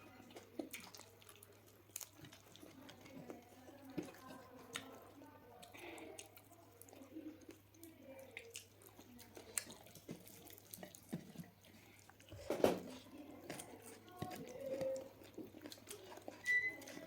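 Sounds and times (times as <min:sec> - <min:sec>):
wet chewing and mouth sounds: 0:00.0 - 0:17.0.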